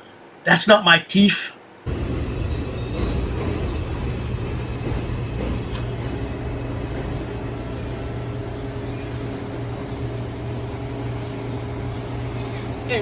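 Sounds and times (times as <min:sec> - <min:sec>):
street traffic rumble: 0:01.9 - 0:13.0.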